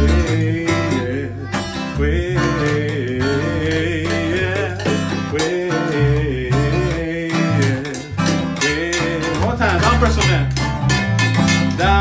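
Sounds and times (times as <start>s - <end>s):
person singing: 0.0s - 10.6s, 11.4s - 12.0s
plucked guitar: 0.0s - 12.0s.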